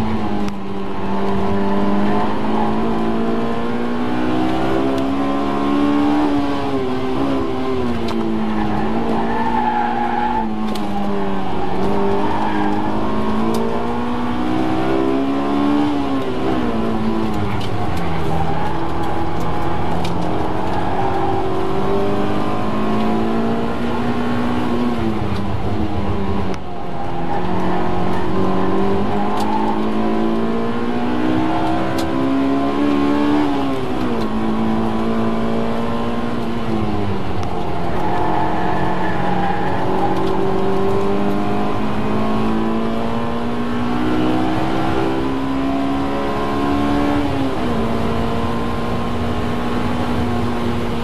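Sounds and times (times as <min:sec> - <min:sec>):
car engine at high revs: 0:00.0 - 0:51.0.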